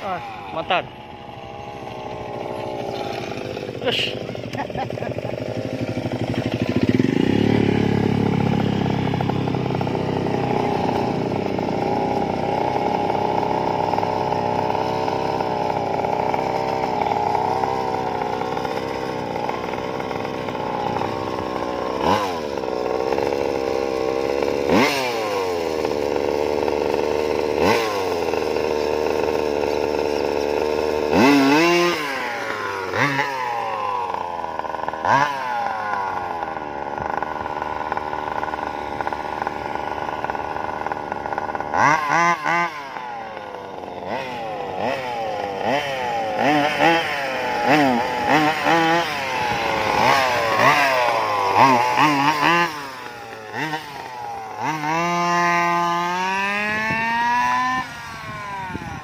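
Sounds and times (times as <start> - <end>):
two-stroke engine idling and revving: 0.0 - 59.0.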